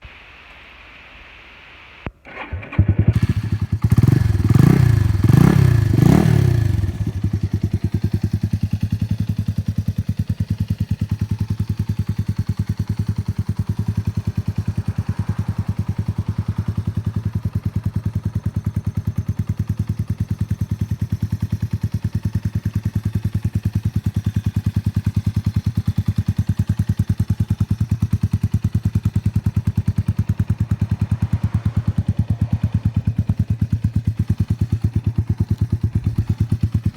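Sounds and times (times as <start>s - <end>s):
motorcycle engine revving and idling: 2.3s - 36.9s.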